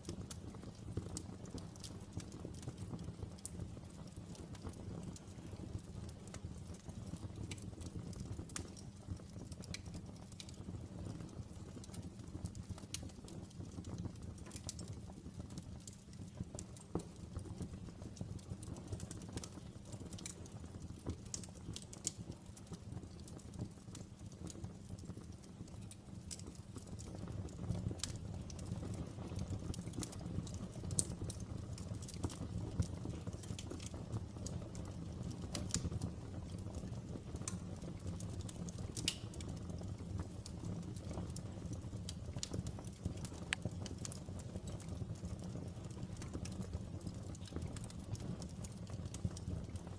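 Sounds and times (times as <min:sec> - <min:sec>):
fire crackling and popping: 0:00.0 - 0:49.9
low rumble of flame: 0:00.0 - 0:49.9.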